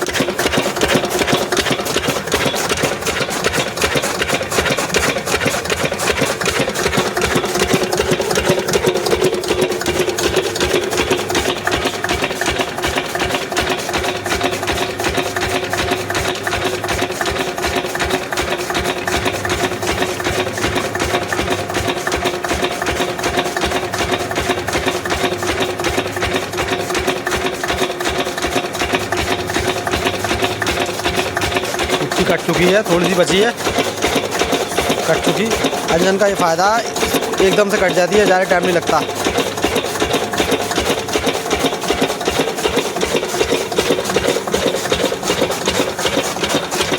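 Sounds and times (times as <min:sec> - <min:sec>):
chaff cutter blades clattering: 0:00.0 - 0:46.9
diesel engine running under load: 0:00.0 - 0:46.9.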